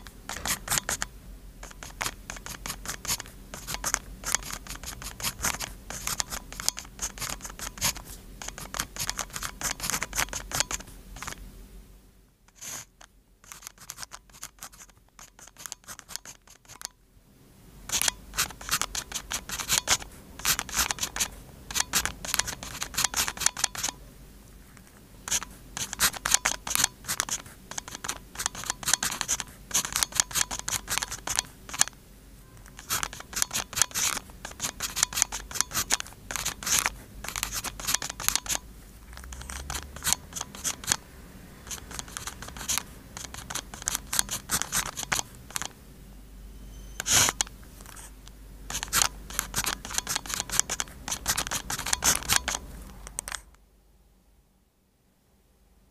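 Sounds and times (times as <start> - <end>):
pen scratching on paper: 0.0 - 11.4, 12.5 - 16.9, 17.9 - 24.0, 25.2 - 31.9, 32.6 - 41.0, 41.6 - 45.7, 47.0 - 52.6.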